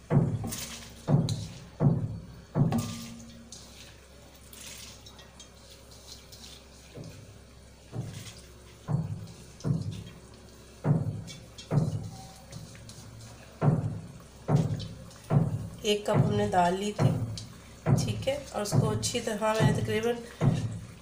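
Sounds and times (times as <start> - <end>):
soft wet thuds and plops: 0.0 - 21.0
wet rustle: 0.4 - 1.8, 2.4 - 21.0.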